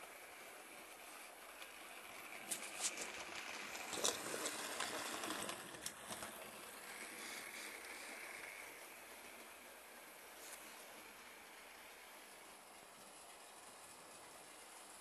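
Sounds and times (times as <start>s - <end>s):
faint steady whine: 0.0s - 15.0s
model train wheels clicking: 0.0s - 15.0s.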